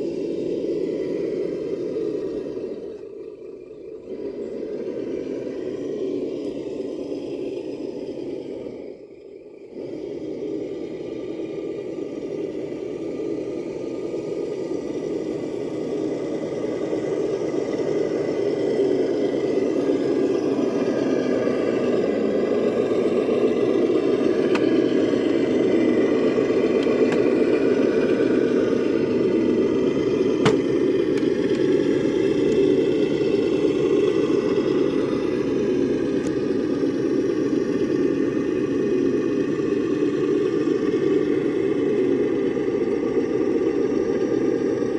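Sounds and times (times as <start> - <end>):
toy truck motor whirring: 0.0 - 44.9.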